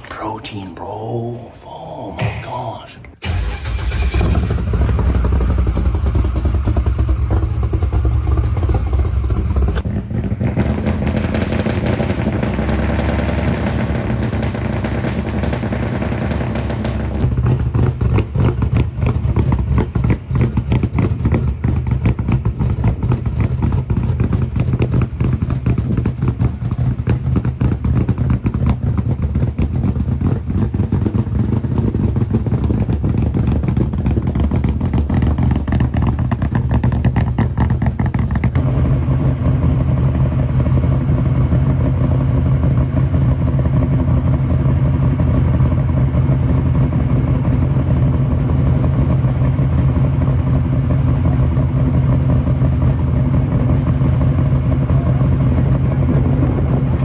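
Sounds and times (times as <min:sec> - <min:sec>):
truck engine idling: 0:03.2 - 0:57.0.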